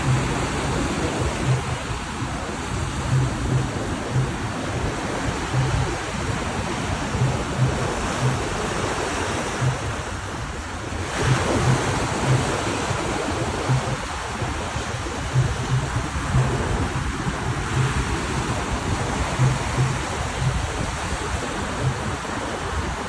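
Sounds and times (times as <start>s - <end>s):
ocean waves breaking: 0.0s - 23.0s
wind buffeting microphone: 0.0s - 23.0s.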